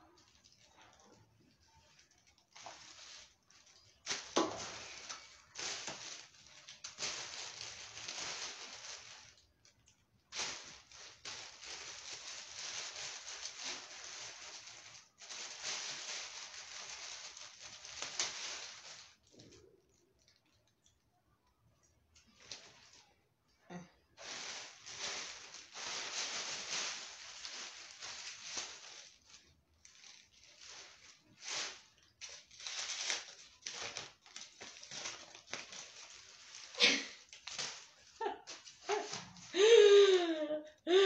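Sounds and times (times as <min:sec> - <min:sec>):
plastic bin bag crinkling: 0:00.0 - 0:21.0, 0:21.8 - 0:23.2, 0:24.1 - 0:39.9.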